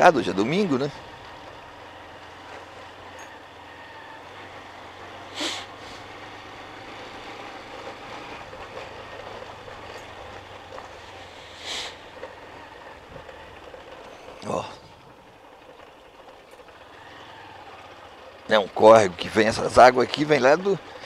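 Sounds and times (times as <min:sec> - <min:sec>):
small motorcycle engine running: 0:00.0 - 0:21.0
tyres on wet cobblestones: 0:00.0 - 0:21.0.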